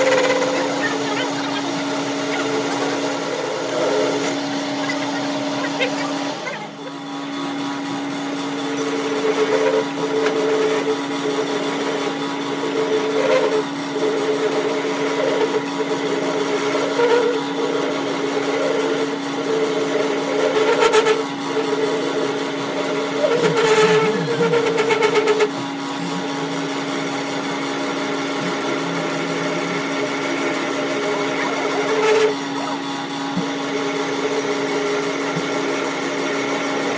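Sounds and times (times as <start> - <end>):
machine motor running: 0.0 - 36.9.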